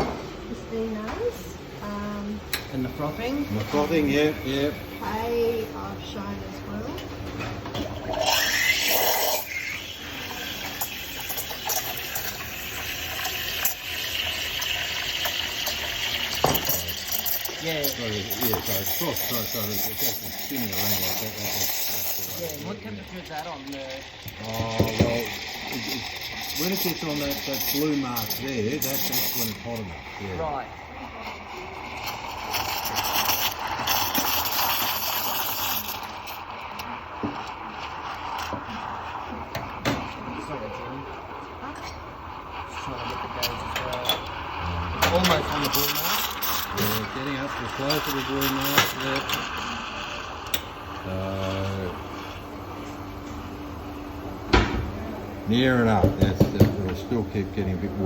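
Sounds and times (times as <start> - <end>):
steam wand frothing milk: 0.8 - 58.0.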